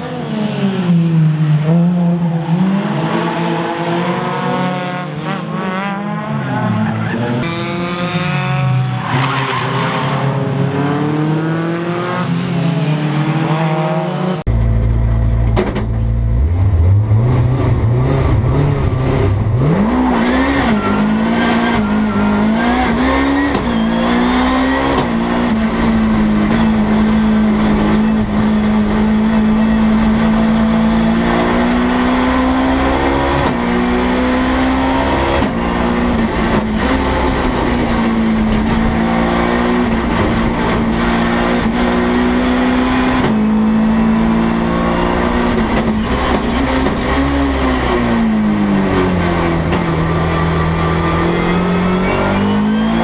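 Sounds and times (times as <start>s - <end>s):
deep engine rumble and climbing revs: 0.0s - 53.0s
rally car engines revving: 0.0s - 53.0s.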